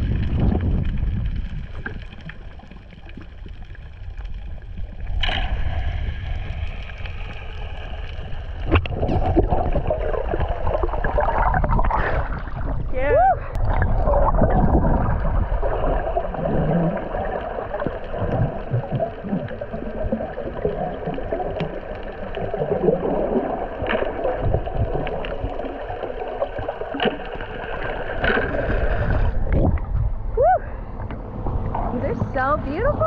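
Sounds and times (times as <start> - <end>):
muffled underwater rushing and gurgling: 0.0 - 33.0.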